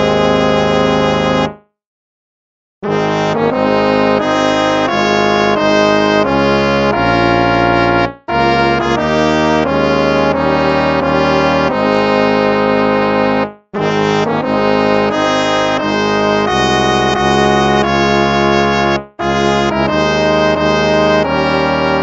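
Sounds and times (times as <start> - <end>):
instrumental hymn music: 0.0 - 1.6, 2.8 - 22.0.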